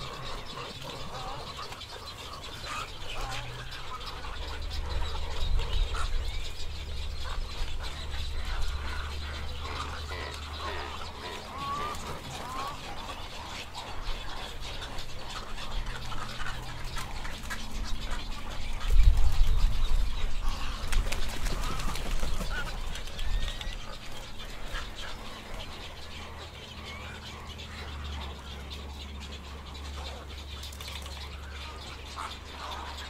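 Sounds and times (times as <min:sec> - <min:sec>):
many birds calling: 0:00.0 - 0:33.0.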